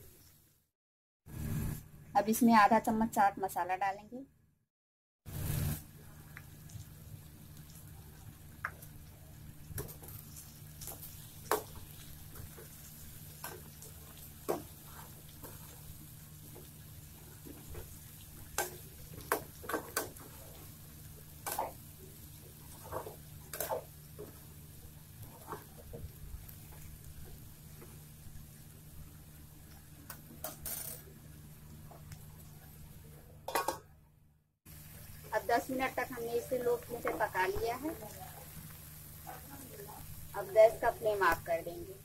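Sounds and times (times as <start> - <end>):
food frying quietly: 5.3 - 34.0, 34.7 - 42.0.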